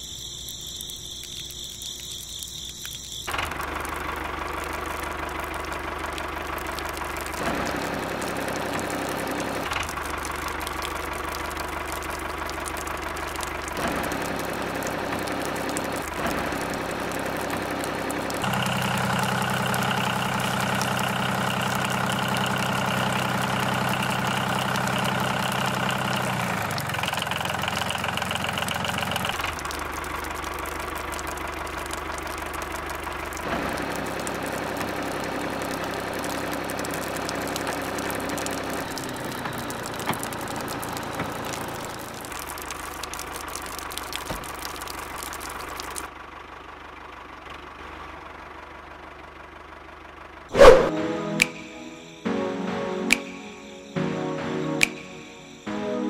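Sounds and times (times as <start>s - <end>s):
small engine idling: 0.0s - 50.5s.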